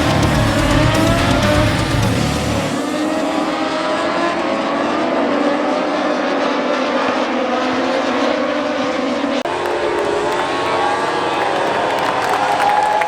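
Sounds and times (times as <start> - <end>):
racing motorcycle engines: 0.0 - 13.0.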